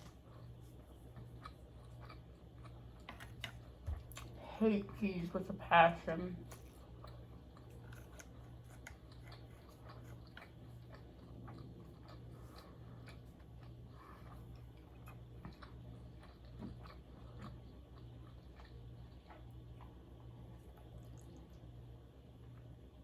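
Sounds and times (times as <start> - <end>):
chewing food: 0.0 - 5.5, 6.4 - 23.0
faint low hum: 0.0 - 23.0.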